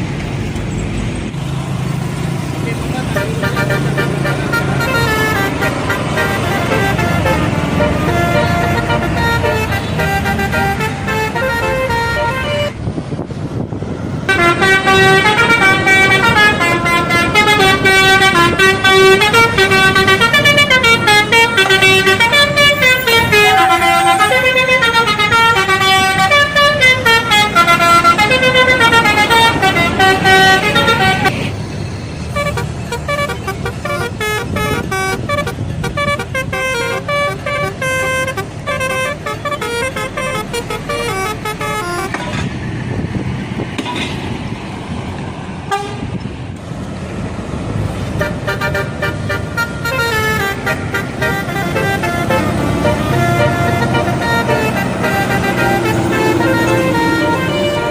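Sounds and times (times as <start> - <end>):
bus engine: 0.0 - 57.9
traffic: 0.0 - 57.9
bus air horn melody: 3.1 - 12.8, 14.2 - 31.5, 32.3 - 42.5, 45.7 - 46.2, 48.2 - 57.9.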